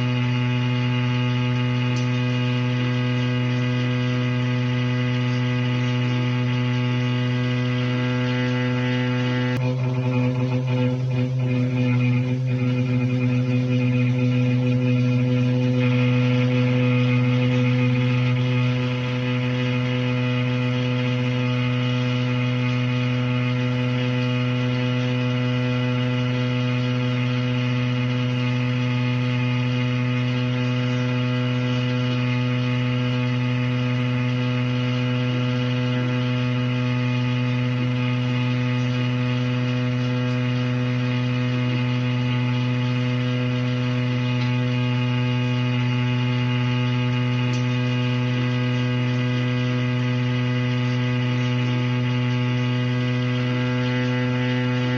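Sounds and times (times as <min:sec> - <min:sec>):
shower plumbing droning hum: 0:00.0 - 0:54.9.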